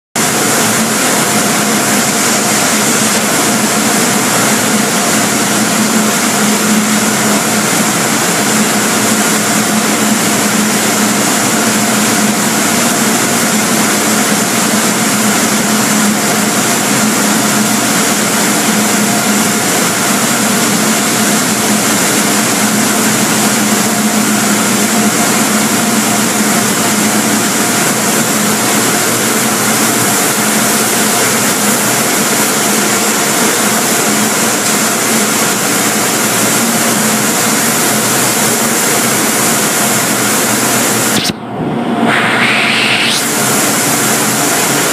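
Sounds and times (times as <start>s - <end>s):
car wash machinery whirring: 0.2s - 44.9s
hissing rush of spray: 0.2s - 44.9s.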